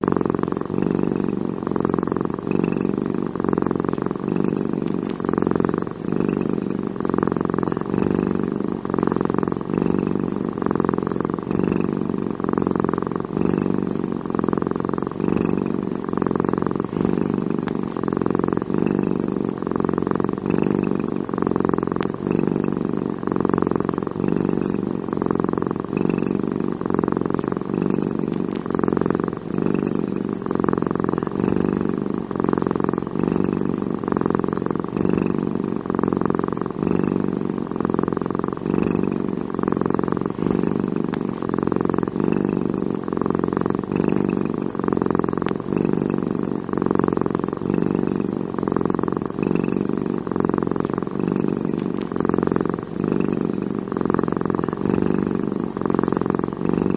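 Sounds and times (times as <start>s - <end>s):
cat purring: 0.0s - 56.9s.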